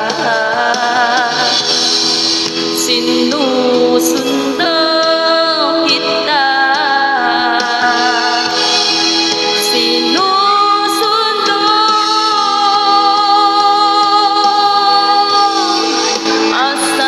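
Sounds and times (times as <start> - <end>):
backing track music: 0.0 - 17.0
woman singing with vibrato: 0.0 - 17.0.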